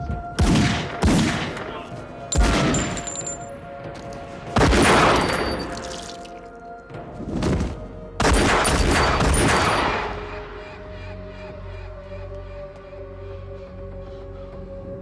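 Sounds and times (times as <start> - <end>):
film score held notes: 0.0 - 15.0.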